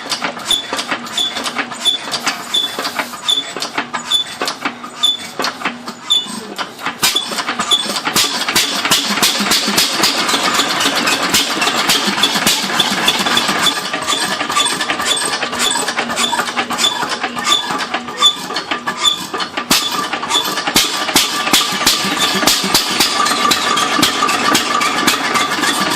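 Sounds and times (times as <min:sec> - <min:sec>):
old engine clattering: 0:00.0 - 0:25.9.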